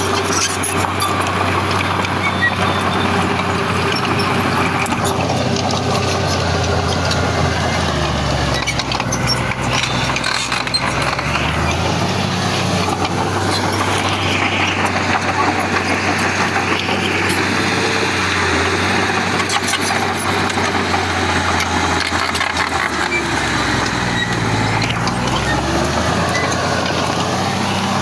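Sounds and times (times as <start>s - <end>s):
clatter: 0.0s - 28.0s
diesel engine running under load: 0.0s - 28.0s.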